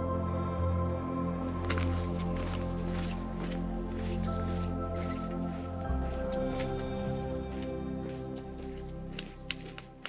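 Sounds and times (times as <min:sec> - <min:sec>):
ambient music with held tones: 0:00.0 - 0:10.0
low drone: 0:00.0 - 0:10.0.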